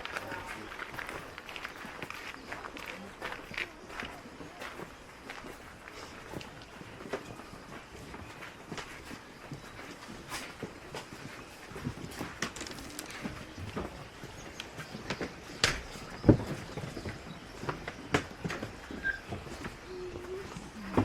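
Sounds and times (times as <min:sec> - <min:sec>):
footsteps on a path: 0:00.0 - 0:21.0.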